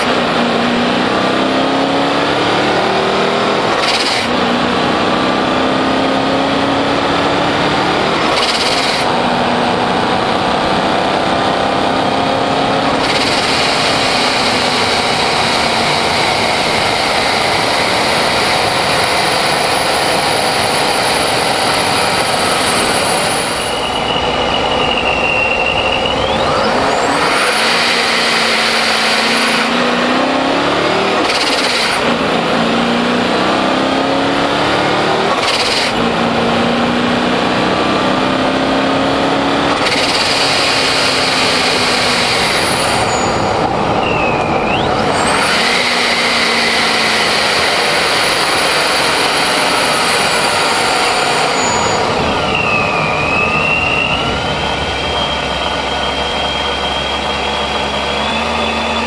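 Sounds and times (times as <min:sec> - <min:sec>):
car engine accelerating hard: 0:00.0 - 0:59.0
supercharger whine: 0:00.0 - 0:59.0
wind and tyre noise: 0:00.0 - 0:59.0.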